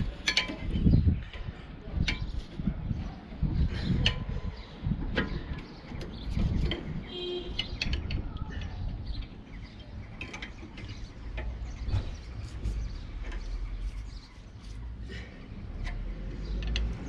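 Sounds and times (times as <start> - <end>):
metallic clicks knocks and scrapes: 0.0 - 2.7, 3.7 - 17.0
bird chirp: 2.0 - 17.0.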